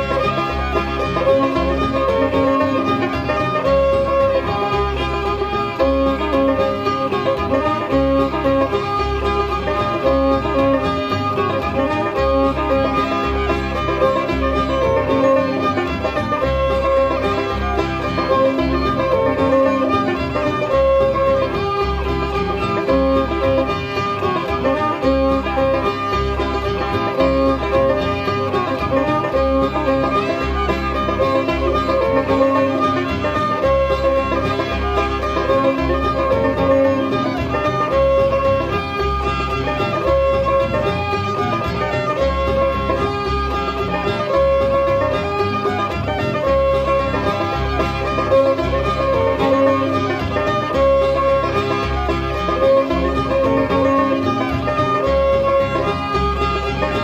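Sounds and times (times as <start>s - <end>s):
acoustic guitar: 0.0s - 57.0s
banjo: 0.0s - 57.0s
fiddle: 0.0s - 57.0s
upright bass: 0.0s - 57.0s.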